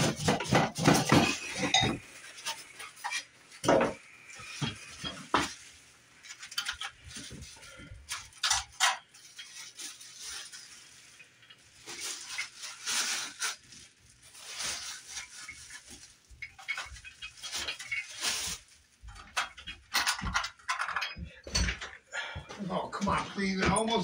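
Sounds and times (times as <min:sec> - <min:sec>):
plastic packaging crinkling: 0:00.0 - 0:20.6.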